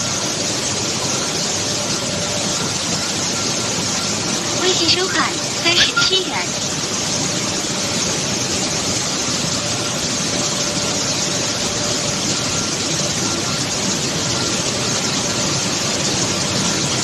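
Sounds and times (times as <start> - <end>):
faint machine whines: 0.0 - 17.0
milling machinery running: 0.0 - 17.0.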